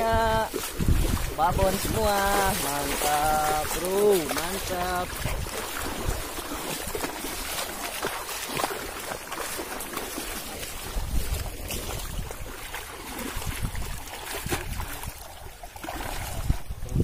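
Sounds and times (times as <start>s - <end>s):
lake water lapping at shore: 0.0s - 17.0s
wind buffeting microphone: 0.0s - 17.0s.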